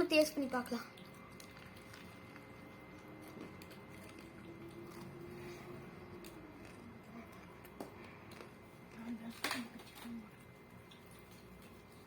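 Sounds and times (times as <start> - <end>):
faint steady hum: 0.0 - 12.0
chewing crispy chicken burger: 0.4 - 12.0.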